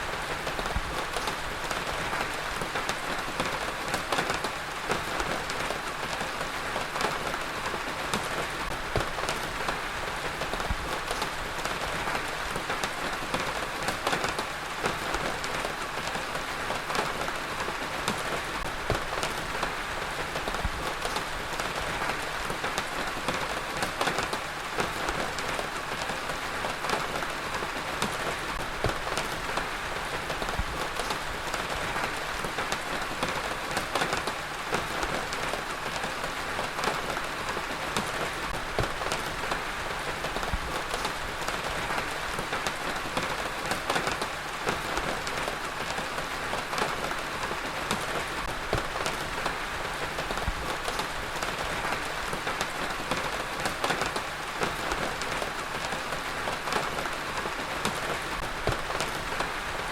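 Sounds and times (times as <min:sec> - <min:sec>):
heavy rain on hard surface: 0:00.0 - 0:59.9.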